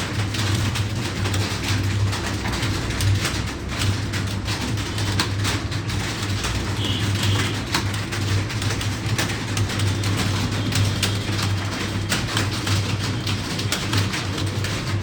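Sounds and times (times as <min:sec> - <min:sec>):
keyboards clattering: 0:00.0 - 0:15.0.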